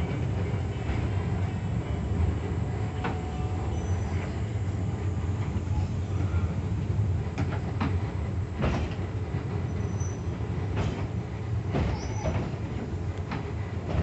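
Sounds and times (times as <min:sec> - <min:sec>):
cable car rumbling on rails: 0:00.0 - 0:14.0.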